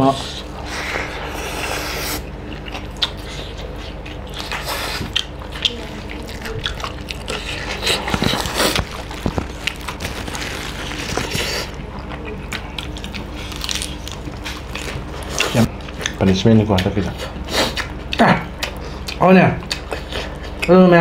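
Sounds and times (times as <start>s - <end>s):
wet chewing and biting: 0.8s - 20.8s.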